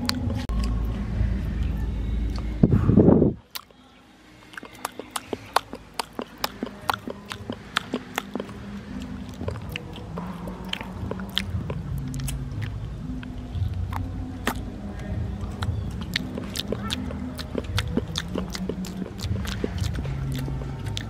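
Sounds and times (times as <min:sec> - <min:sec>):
children chewing and smacking: 0:00.0 - 0:02.8, 0:03.4 - 0:03.8, 0:04.4 - 0:21.0.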